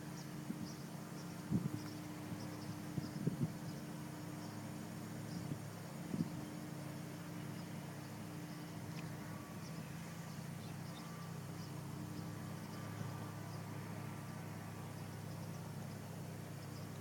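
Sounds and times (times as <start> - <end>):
insects chirping: 0.0 - 17.0
steady low hum: 0.0 - 17.0.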